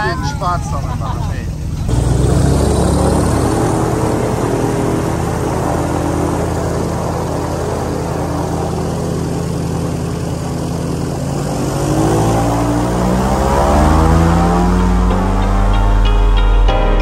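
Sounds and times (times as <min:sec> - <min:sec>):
airboat engine and propeller: 0:00.0 - 0:16.7.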